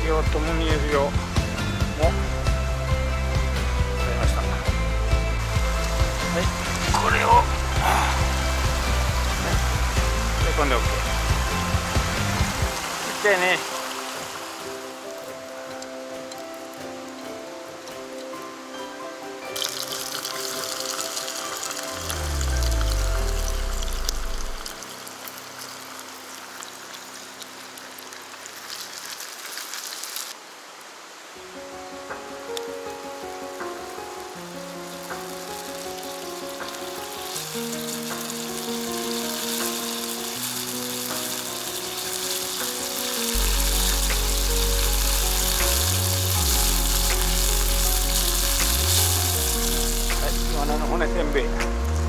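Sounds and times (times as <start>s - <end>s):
oil popping: 0.0s - 16.0s, 19.6s - 30.4s, 32.1s - 52.0s
bones deep-frying in oil: 0.0s - 17.4s, 19.5s - 30.4s, 32.5s - 52.0s
background music: 0.0s - 27.6s, 31.4s - 52.0s.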